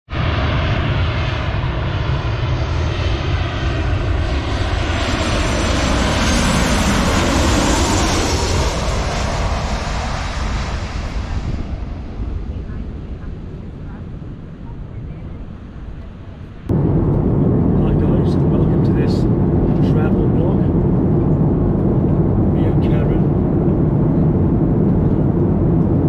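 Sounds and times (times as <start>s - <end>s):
jet engines running: 0.1s - 26.0s.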